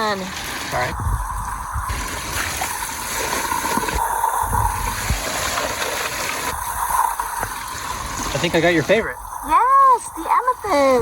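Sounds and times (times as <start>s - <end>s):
running water splashing: 0.0s - 11.0s.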